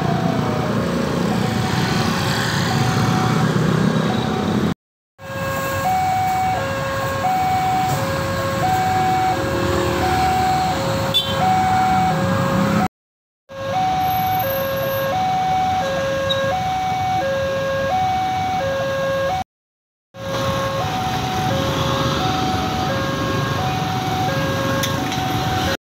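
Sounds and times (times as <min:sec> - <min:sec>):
waiting traffic noise: 0:00.0 - 0:12.9, 0:13.5 - 0:19.5, 0:20.2 - 0:25.8.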